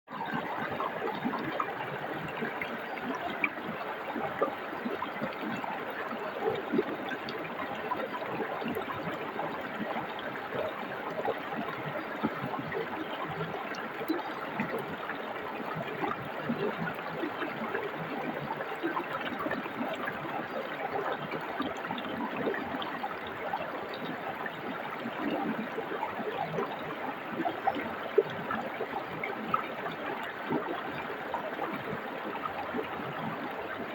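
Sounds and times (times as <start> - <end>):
stream water rushing and gurgling: 0.1 - 33.9.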